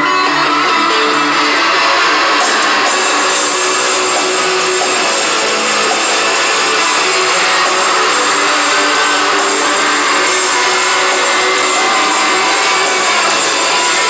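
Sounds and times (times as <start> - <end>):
crowd cheering and screaming: 0.0 - 14.0
faint live band music: 0.0 - 14.0.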